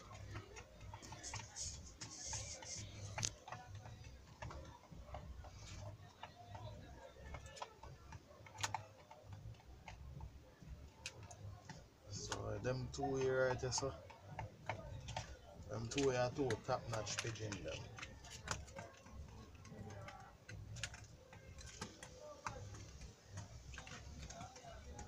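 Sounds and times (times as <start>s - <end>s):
beaks tapping on plastic bowl: 0.1s - 25.0s.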